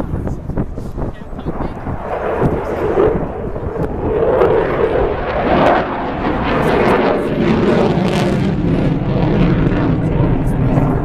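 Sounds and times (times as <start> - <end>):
fighter jet rumble: 0.0 - 11.0.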